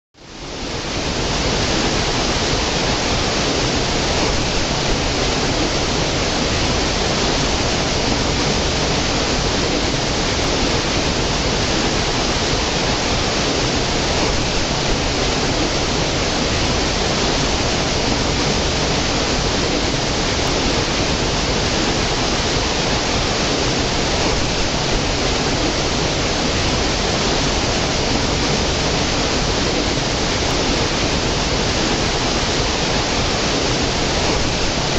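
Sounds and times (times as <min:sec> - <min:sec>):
stream cascading over rocks: 0:00.4 - 0:34.9.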